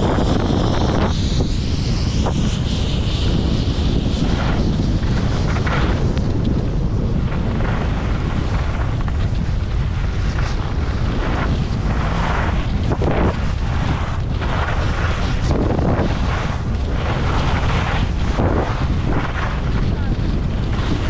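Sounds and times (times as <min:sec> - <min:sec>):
skis scraping on packed snow: 0:00.0 - 0:21.0
wind buffeting microphone: 0:00.0 - 0:21.0.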